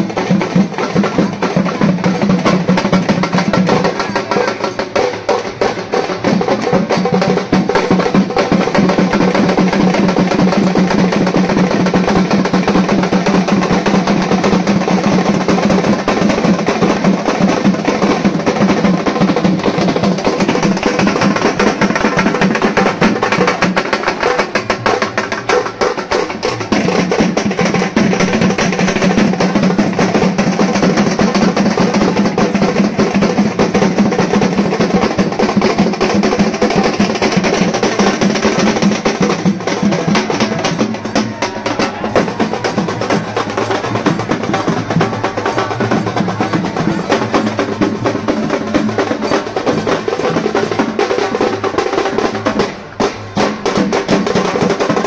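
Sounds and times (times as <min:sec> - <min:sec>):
drums beaten in fast rolls: 0:00.0 - 0:55.0.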